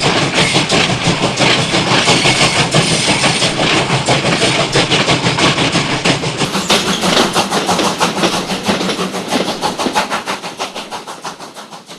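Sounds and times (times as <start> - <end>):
train clacking on track: 0.0 - 11.9
train rushing noise: 0.0 - 11.9.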